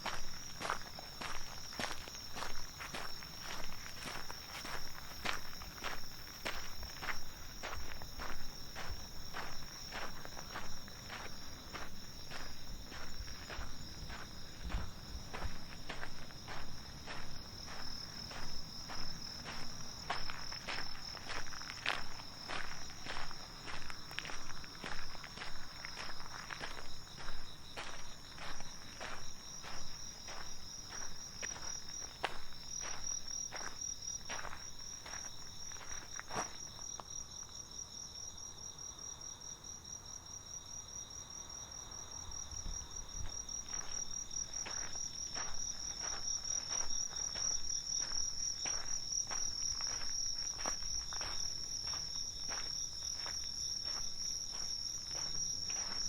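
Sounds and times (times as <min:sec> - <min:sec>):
footsteps walking: 0:00.0 - 0:36.7, 0:42.6 - 0:56.0
night insects chirring: 0:00.0 - 0:56.0.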